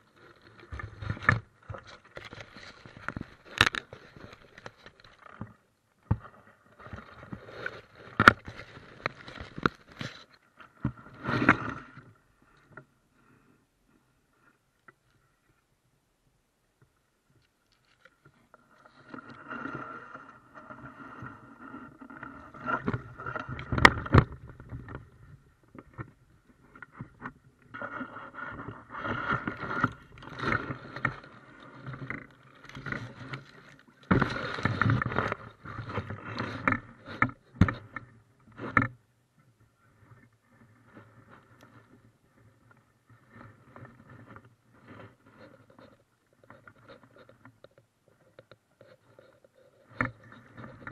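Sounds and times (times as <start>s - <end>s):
fishing tackle knocks and scraping: 0.6s - 12.0s, 17.8s - 39.0s, 40.0s - 50.9s.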